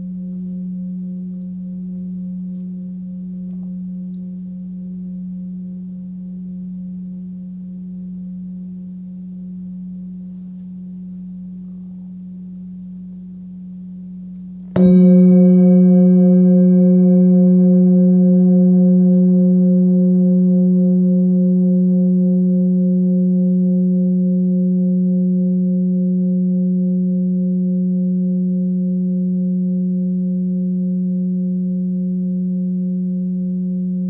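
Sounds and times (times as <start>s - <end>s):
singing bowl ringing: 0.0s - 34.0s.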